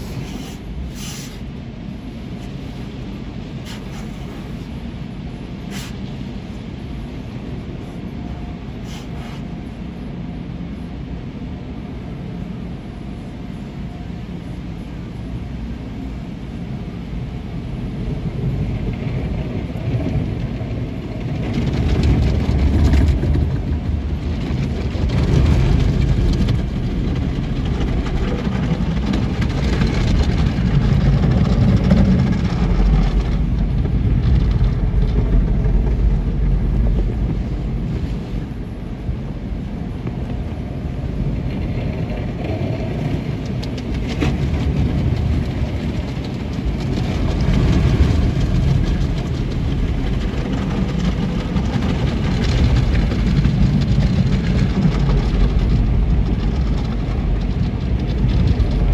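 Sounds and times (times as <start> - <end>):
water jets spraying on car: 0.0 - 10.8, 14.3 - 58.9
low rumble of wash strips: 0.0 - 58.9.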